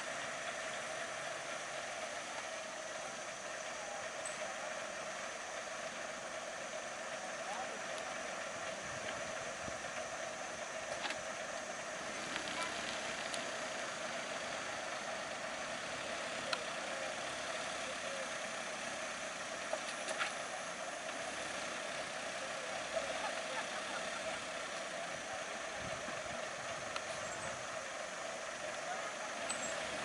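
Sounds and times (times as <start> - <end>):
bus engines idling: 0.0 - 30.0.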